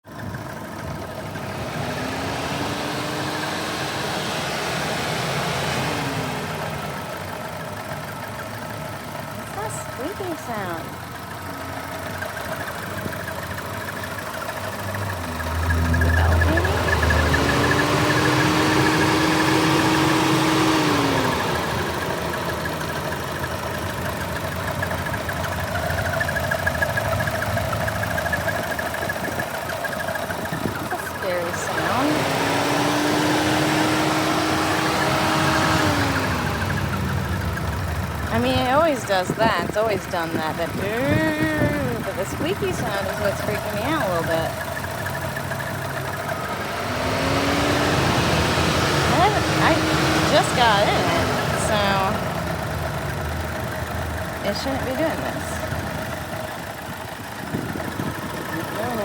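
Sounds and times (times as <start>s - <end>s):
car engine running: 0.0s - 59.0s
road noise inside car: 0.0s - 59.0s.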